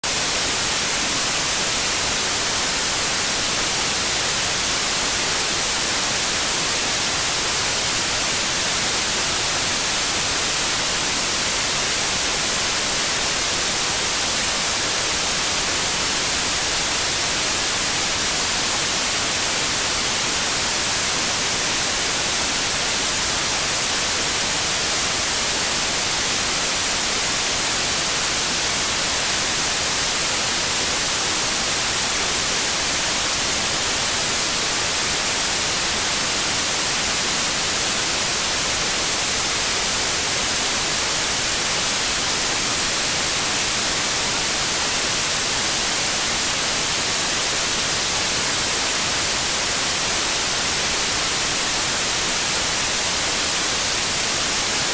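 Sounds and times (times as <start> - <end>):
steady white noise hiss: 0.0 - 54.9.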